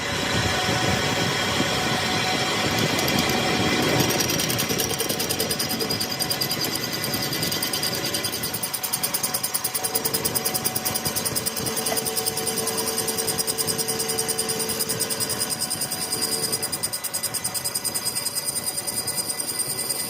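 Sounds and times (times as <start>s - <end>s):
power tool running with fast pulsing: 0.0s - 20.0s.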